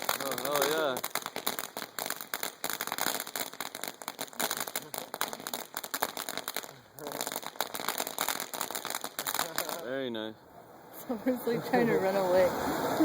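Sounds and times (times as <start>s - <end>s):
firework fountain crackling: 0.0s - 13.0s.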